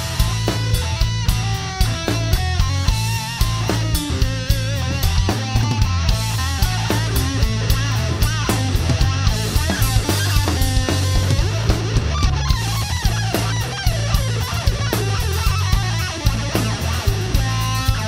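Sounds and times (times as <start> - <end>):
bass guitar: 0.0 - 18.0
drum kit: 0.0 - 18.0
electric guitar lead line: 0.0 - 18.0.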